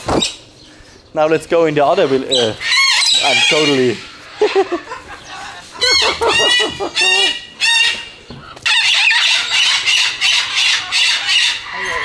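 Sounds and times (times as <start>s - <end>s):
parrots calling: 0.0s - 12.0s
parrots screeching: 1.8s - 12.0s.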